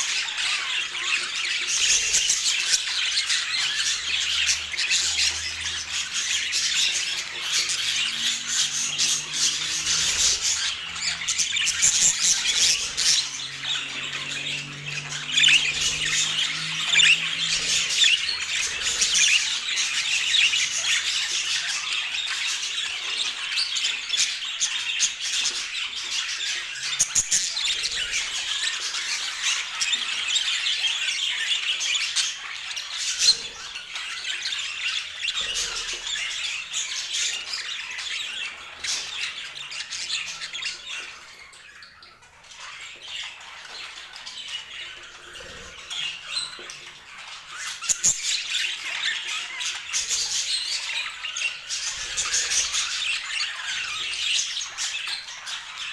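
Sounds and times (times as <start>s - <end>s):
budgerigars chattering and squawking: 0.0s - 55.9s.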